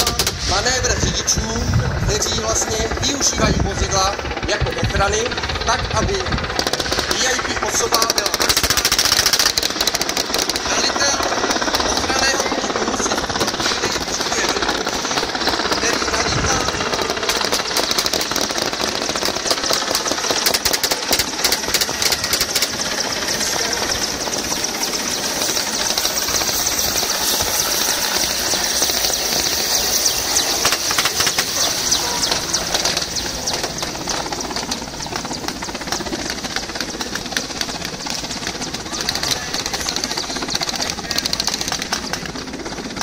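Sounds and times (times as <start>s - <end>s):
helicopter rotor thudding: 0.0s - 43.0s
turbine whine: 0.0s - 43.0s.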